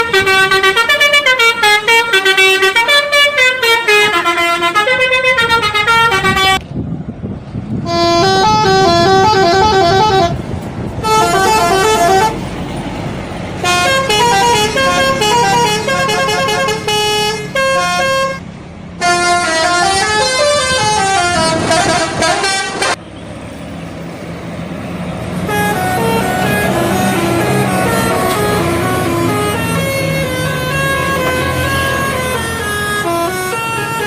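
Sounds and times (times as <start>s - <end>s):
bus multi-tone horn melody: 0.0s - 6.7s, 7.8s - 23.2s, 25.2s - 34.0s
bus engine running: 0.0s - 34.0s.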